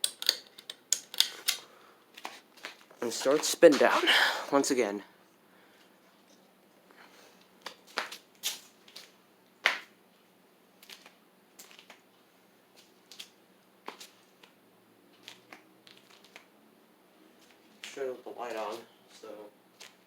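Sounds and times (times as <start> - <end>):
ceiling fan hum: 0.0 - 20.0.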